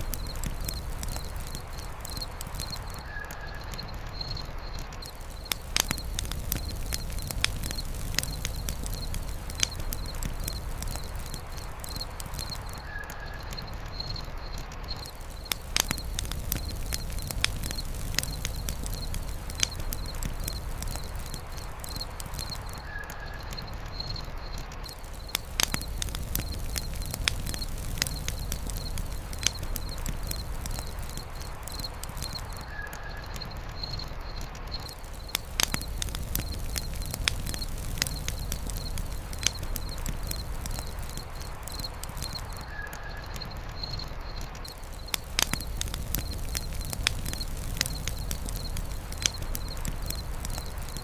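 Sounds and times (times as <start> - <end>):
campfire crackling and popping: 0.0 - 51.0
faint high chirp: 0.0 - 51.0.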